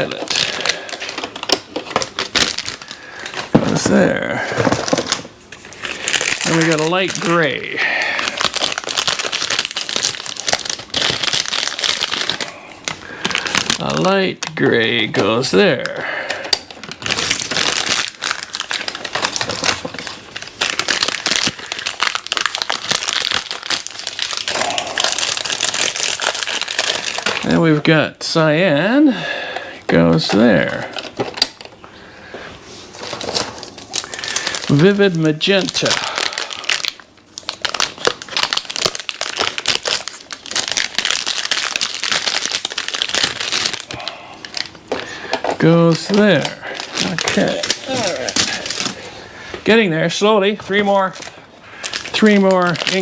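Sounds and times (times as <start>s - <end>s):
plastic wrapping crinkling: 0.0s - 53.0s.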